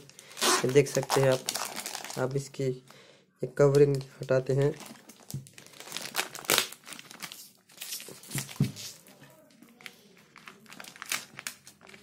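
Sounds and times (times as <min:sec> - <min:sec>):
plastic shrink-wrap crinkling and tearing: 0:00.0 - 0:02.5, 0:03.9 - 0:09.2, 0:09.8 - 0:12.0.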